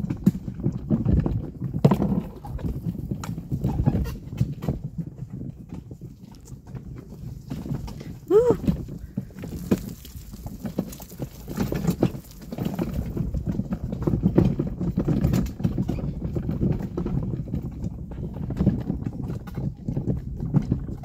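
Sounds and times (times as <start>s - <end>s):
footsteps on muddy dirt road: 0.0s - 20.7s.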